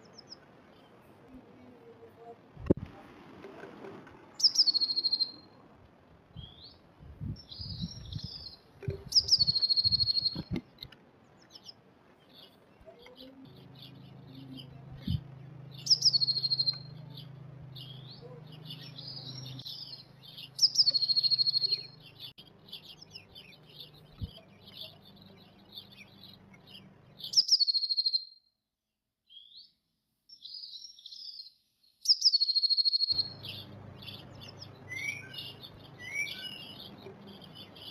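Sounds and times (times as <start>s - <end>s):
bird song with trill: 0.0s - 2.0s, 4.4s - 5.6s, 6.3s - 28.5s, 29.3s - 37.9s
soft bird chirps: 4.3s - 5.6s, 6.3s - 28.4s, 29.3s - 37.9s.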